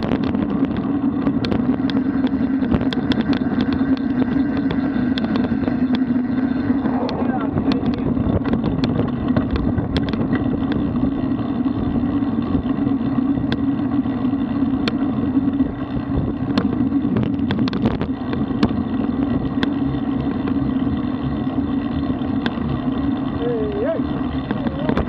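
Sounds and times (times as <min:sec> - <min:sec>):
bike clicks and knocks: 0:00.0 - 0:23.3
bike tyres on asphalt: 0:00.0 - 0:25.0
wind on microphone: 0:00.0 - 0:25.0.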